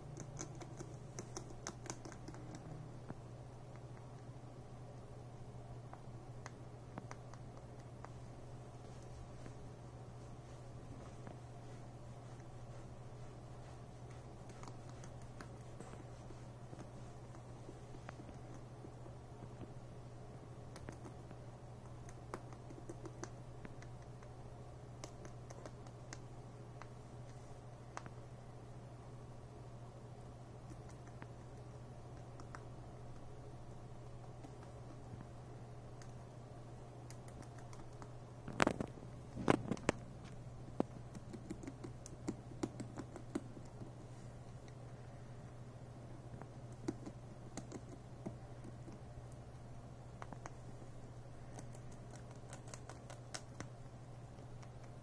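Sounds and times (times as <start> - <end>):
rabbit gnawing wood: 0.0 - 5.0, 5.8 - 28.2, 30.2 - 55.0
steady low hum: 0.0 - 55.0.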